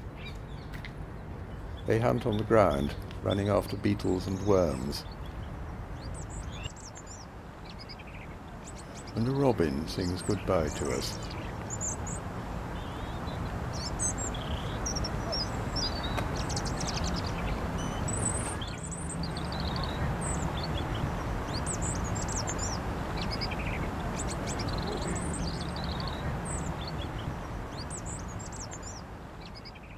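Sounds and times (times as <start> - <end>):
robin singing: 0.0 - 29.9.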